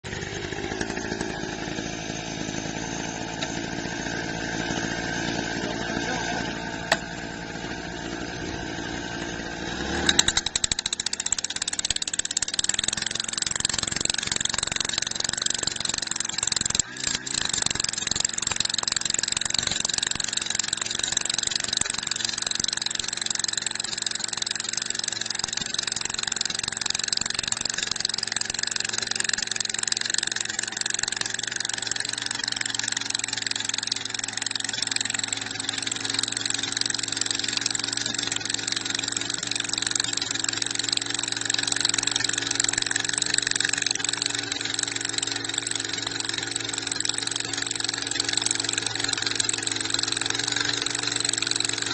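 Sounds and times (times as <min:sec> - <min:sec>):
drilling machine engine running: 0:00.0 - 0:51.9.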